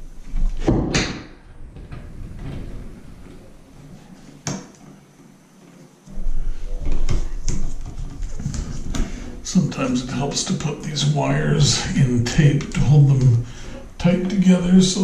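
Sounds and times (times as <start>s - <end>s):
wires rustling and clicking: 1.5s - 15.0s.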